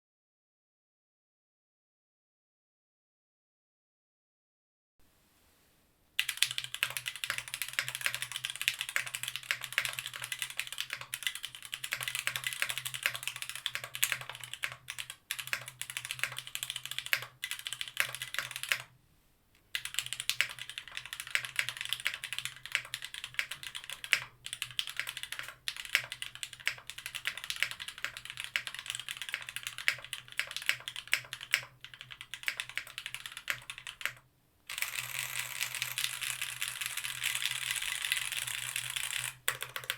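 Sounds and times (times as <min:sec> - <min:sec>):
fast mechanical keyboard typing: 0:06.2 - 0:18.9, 0:19.7 - 0:39.9.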